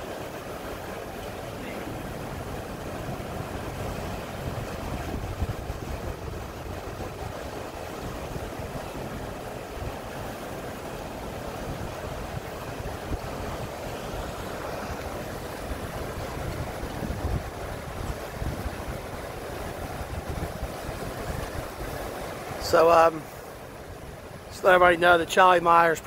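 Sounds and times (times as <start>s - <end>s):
water churning into lock chamber: 0.0s - 26.0s.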